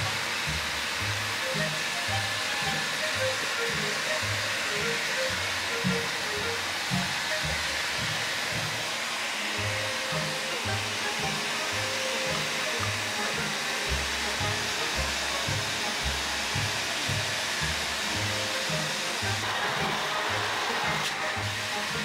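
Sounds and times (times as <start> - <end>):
background music with bass line: 0.0 - 8.8, 9.6 - 22.0
hair dryer blowing: 0.0 - 22.0.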